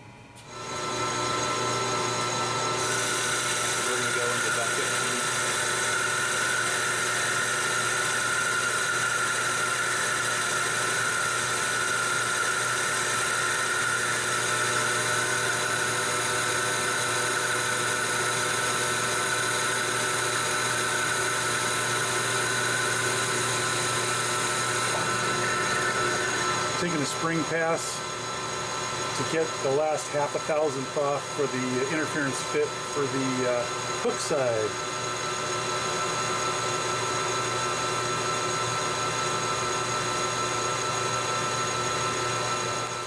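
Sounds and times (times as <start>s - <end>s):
metal lathe whining: 0.5s - 43.0s.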